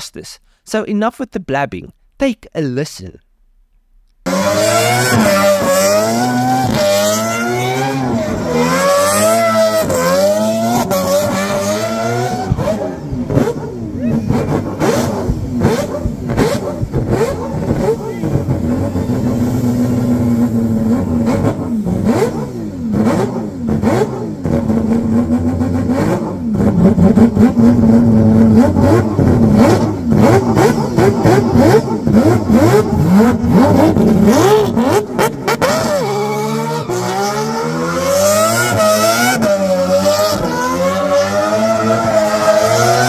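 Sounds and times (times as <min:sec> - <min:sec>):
rotary engine revving with crackles: 0:04.2 - 0:43.0.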